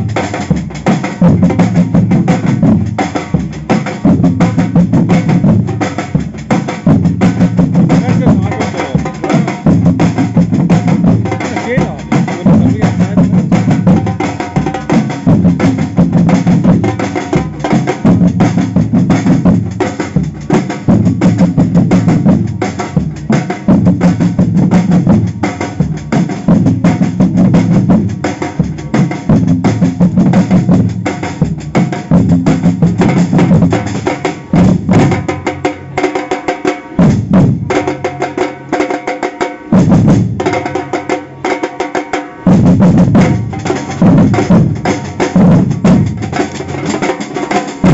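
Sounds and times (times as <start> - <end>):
deep bass drums: 0.0 - 36.0, 36.9 - 38.4, 39.7 - 41.4, 42.5 - 47.9
samba percussion band: 0.0 - 47.9.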